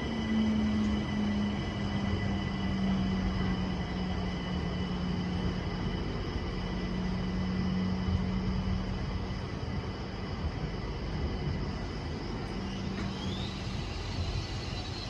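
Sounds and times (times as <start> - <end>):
faint high whines: 0.0 - 15.0
train low drone: 0.0 - 15.0.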